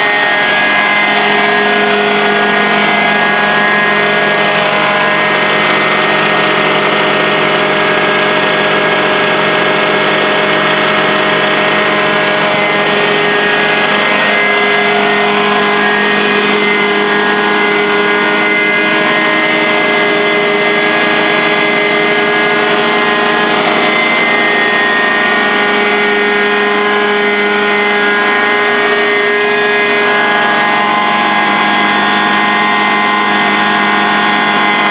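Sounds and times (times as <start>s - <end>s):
carpet cleaning machine droning: 0.0s - 34.9s.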